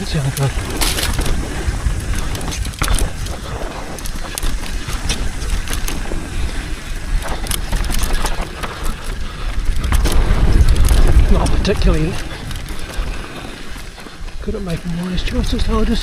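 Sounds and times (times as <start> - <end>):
bike tyres rumbling on dirt trail: 0.0 - 16.0.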